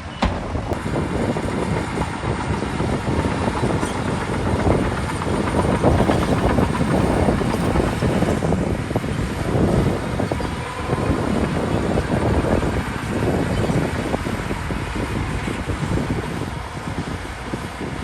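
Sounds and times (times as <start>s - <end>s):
bulldozer diesel engine running: 0.0s - 18.0s
steel tracks clattering: 0.0s - 18.0s.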